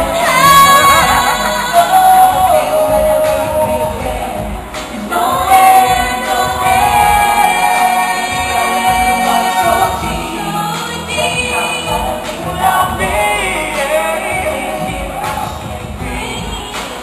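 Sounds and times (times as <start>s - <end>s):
group singing live pop song: 0.0s - 17.0s
musical accompaniment: 0.0s - 17.0s.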